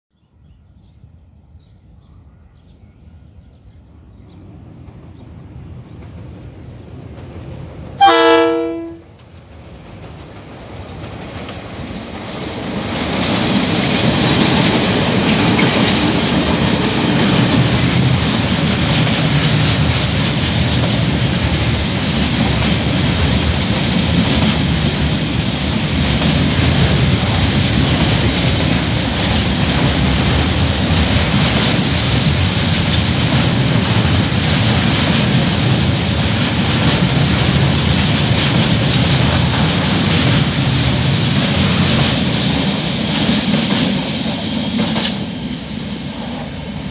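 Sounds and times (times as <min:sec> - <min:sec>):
steel wheels rumbling on rails: 0:04.1 - 0:46.9.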